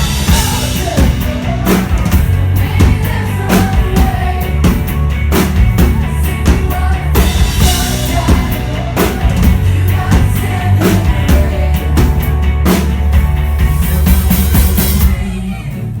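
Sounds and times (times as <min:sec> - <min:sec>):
live rock music: 0:00.0 - 0:16.0.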